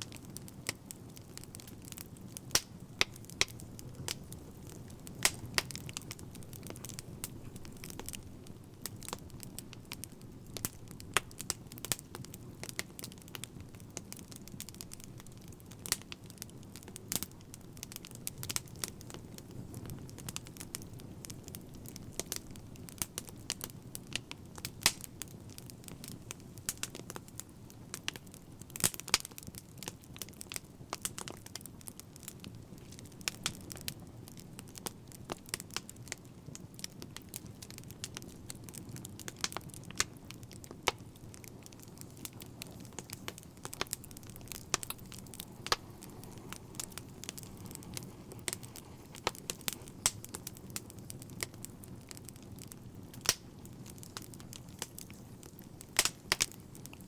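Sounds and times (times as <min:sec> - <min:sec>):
fire crackling and popping: 0:00.0 - 0:57.0
low rumble of burning: 0:00.0 - 0:57.0.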